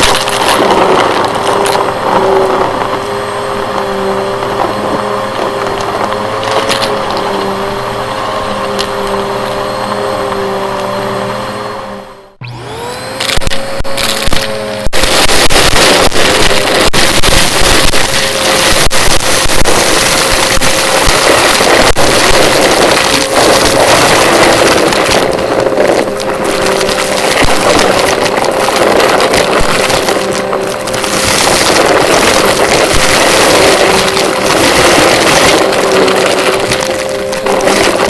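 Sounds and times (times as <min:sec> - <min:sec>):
sharp clicks and crackles: 0:00.0 - 0:10.4, 0:12.9 - 0:38.0
vacuum cleaner running: 0:00.0 - 0:38.0.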